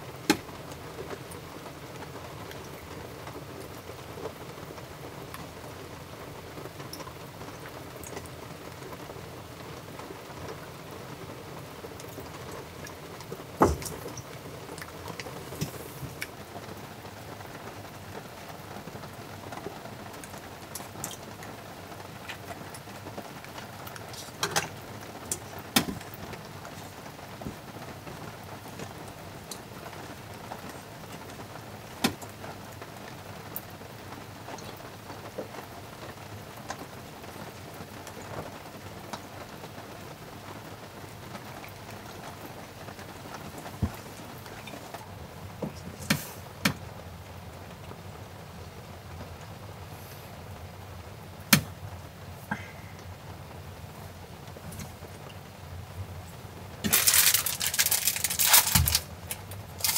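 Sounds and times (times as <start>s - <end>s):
rain on camper shell: 0.0s - 59.9s.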